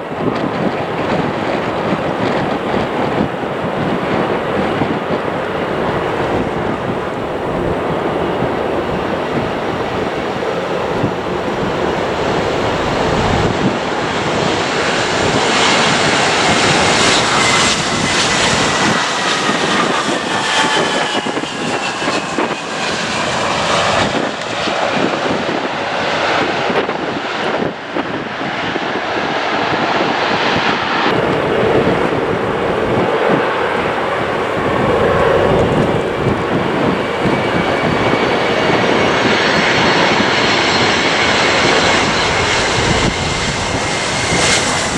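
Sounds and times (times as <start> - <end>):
jet airliner engines whining: 0.0 - 44.9.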